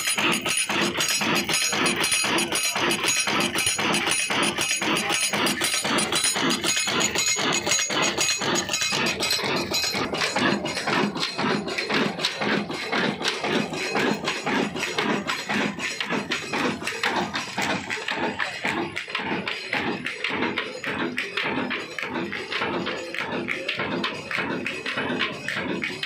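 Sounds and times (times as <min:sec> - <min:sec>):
diesel engine clattering: 0:00.0 - 0:26.0.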